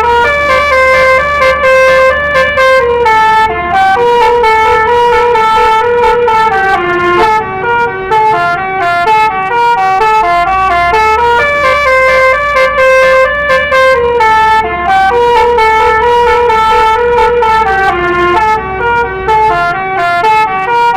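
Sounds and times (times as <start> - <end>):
multi-tone bus horn melody: 0.0 - 20.9.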